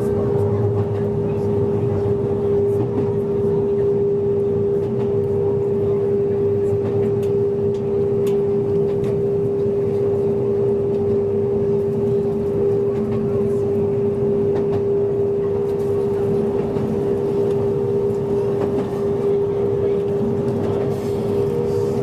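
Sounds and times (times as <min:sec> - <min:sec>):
electric train humming tone: 0:00.0 - 0:22.0
wheels rumbling on rails: 0:00.0 - 0:22.0.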